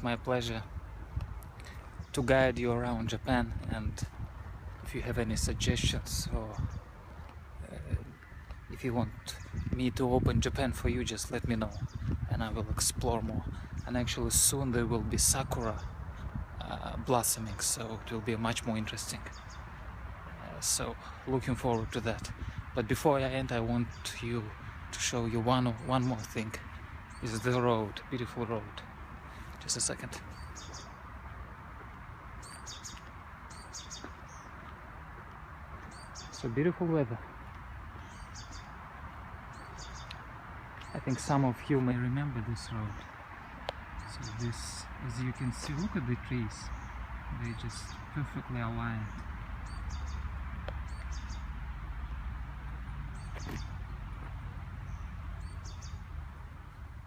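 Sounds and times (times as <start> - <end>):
small birds chirping: 0.0 - 52.4, 53.1 - 57.0
outdoor background hiss: 0.0 - 57.0.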